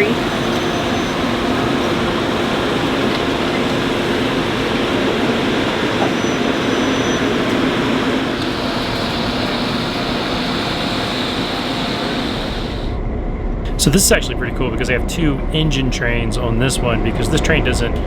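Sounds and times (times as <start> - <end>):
diesel locomotive idling: 0.0 - 13.0, 13.7 - 18.0.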